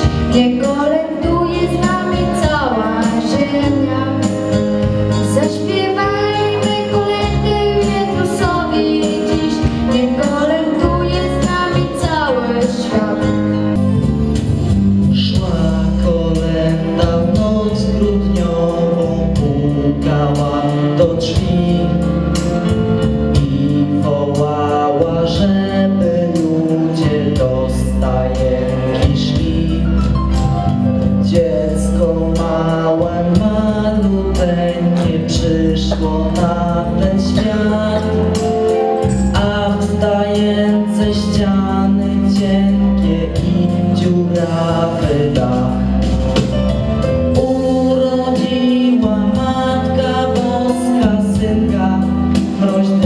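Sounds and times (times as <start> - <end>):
man singing into a microphone: 0.0 - 13.8, 15.0 - 46.4, 47.1 - 53.0
instrumental accompaniment: 0.0 - 53.0.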